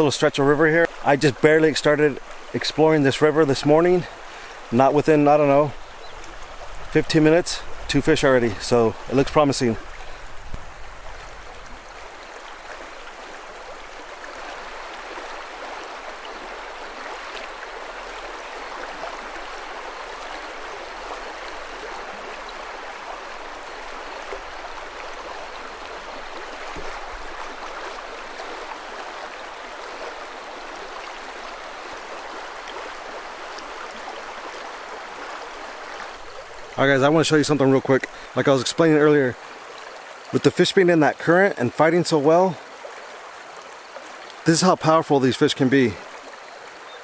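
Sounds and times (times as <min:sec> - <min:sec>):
river water running over rocks: 0:00.0 - 0:47.0.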